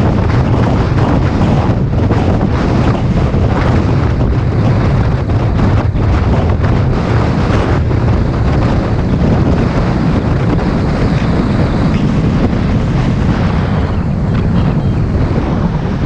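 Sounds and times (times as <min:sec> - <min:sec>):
bus engine and road noise: 0:00.0 - 0:16.0
wind buffeting on microphone: 0:00.0 - 0:16.0.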